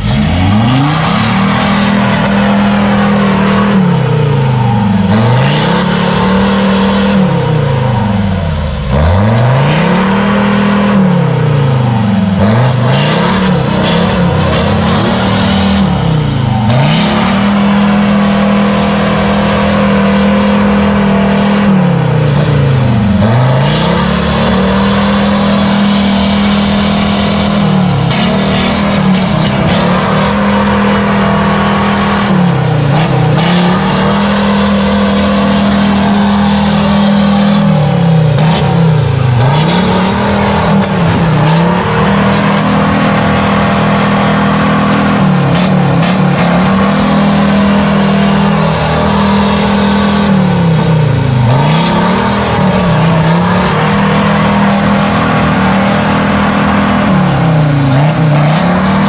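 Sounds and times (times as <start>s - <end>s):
engine revving high: 0.0s - 59.0s.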